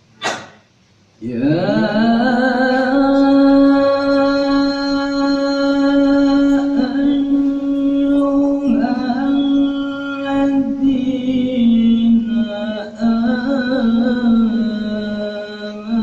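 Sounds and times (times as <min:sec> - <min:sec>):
man chanting melodically: 0:01.2 - 0:16.0.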